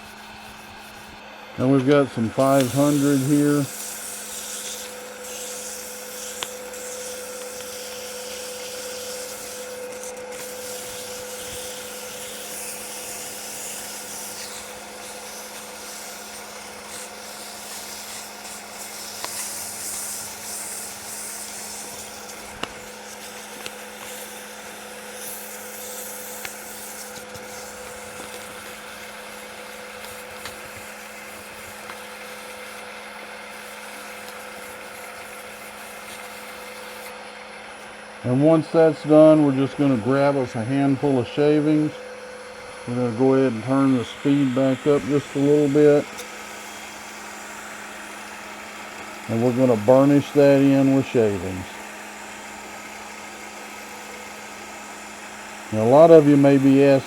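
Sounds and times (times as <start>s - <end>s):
sandpaper rubbing on wood: 0.0s - 1.2s, 1.8s - 37.1s, 44.3s - 48.3s, 49.3s - 52.0s, 53.2s - 57.0s
lathe motor hum: 0.0s - 57.0s.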